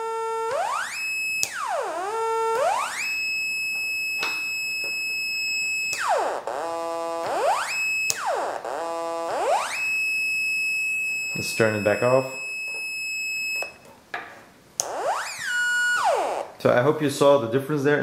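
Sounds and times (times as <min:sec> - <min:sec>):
buzzy synth tone swooping: 0:00.0 - 0:13.6, 0:14.8 - 0:16.6.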